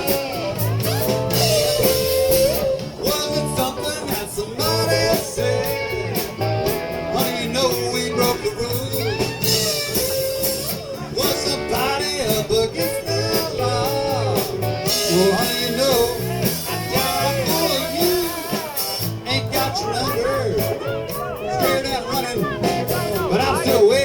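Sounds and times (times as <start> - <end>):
blues-rock band playing: 0.0 - 24.0
electric guitar: 0.0 - 24.0.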